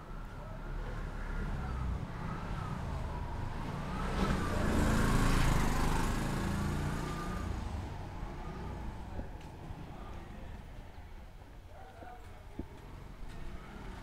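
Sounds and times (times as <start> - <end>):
vehicle driving past: 0.5 - 10.6, 12.8 - 14.0.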